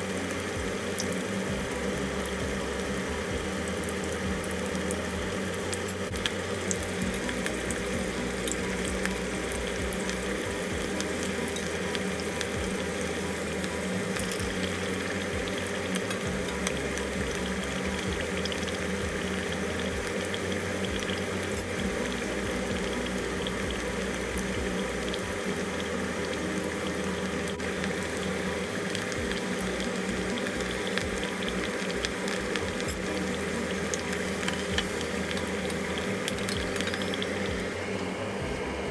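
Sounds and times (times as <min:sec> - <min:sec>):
potatoes sizzling in hot oil: 0:00.0 - 0:38.0
steady low hum: 0:00.0 - 0:38.9.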